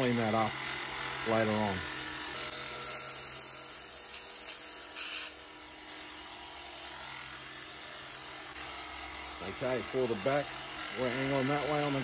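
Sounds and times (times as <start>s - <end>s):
belt grinder sanding wood: 0.0s - 12.0s
grinder motor hum: 0.0s - 12.0s.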